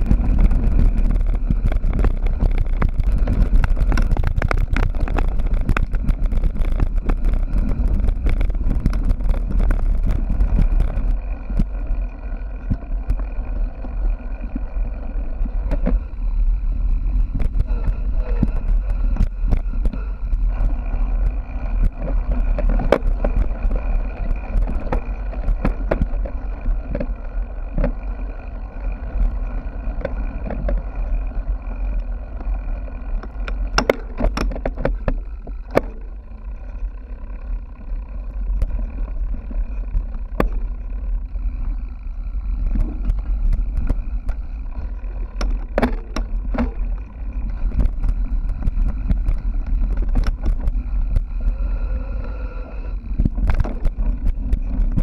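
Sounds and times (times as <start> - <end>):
bicycle rattling over bumps: 0.0 - 55.0
low rumble of wind and vibration: 0.0 - 55.0.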